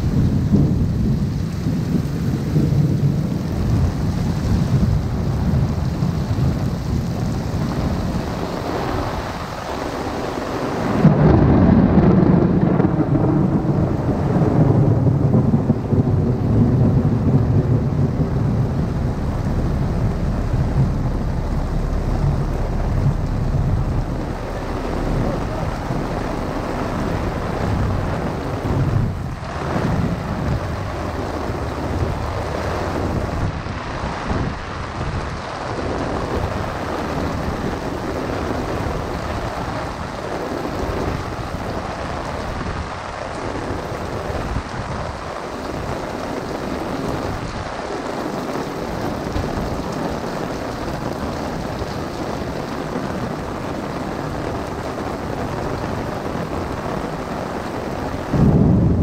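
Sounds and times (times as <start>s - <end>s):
heavy rain on umbrella: 0.0s - 59.0s
thunder rumbling: 0.0s - 59.0s.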